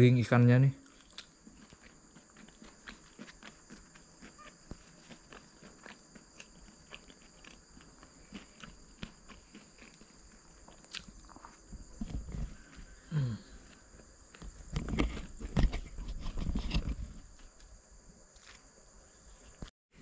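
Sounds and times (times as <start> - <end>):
high-pitched insect chorus: 0.0 - 19.7.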